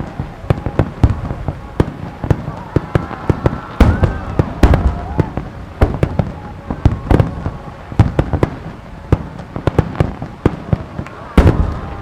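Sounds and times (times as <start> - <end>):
faint fireworks whistling: 0.0 - 12.0
fireworks bangs: 0.0 - 12.0.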